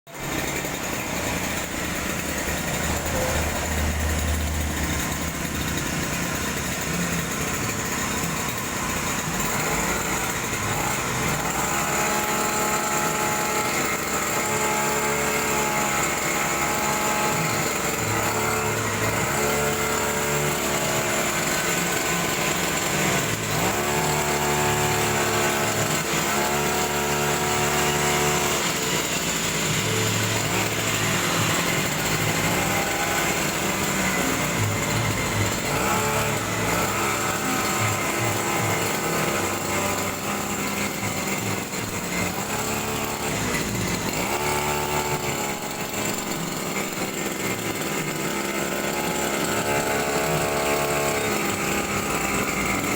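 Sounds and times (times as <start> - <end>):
small petrol engine running: 0.0 - 52.9.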